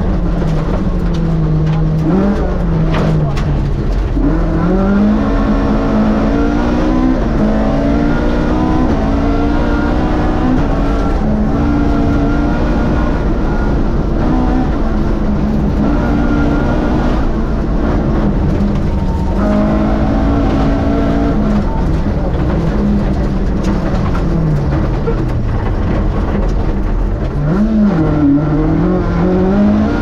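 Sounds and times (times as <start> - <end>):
low rumble of road noise: 0.0 - 30.0
rally car engine revving: 0.0 - 30.0.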